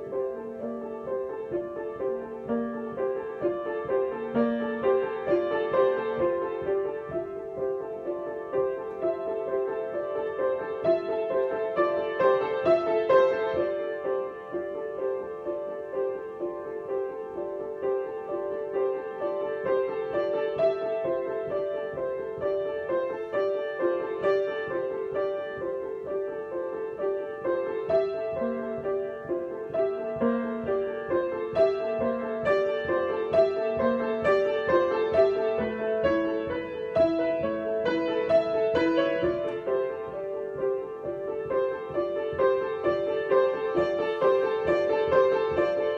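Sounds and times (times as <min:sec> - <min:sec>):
piano improvisation: 0:00.0 - 0:45.9.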